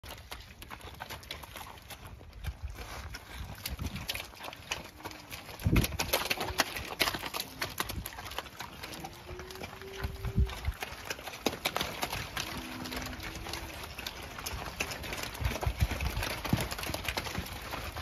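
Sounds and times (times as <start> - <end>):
cow hooves clicking on dirt: 0.0 - 18.0.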